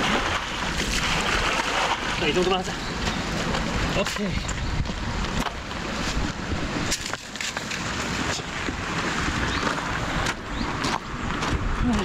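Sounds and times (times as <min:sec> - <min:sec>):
stream running over stones: 0:00.0 - 0:12.0.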